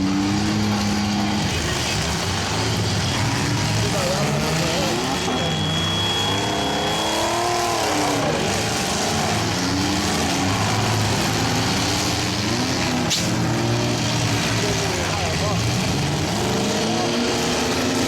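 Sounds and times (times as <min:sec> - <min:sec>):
engines revving: 0:00.0 - 0:18.0.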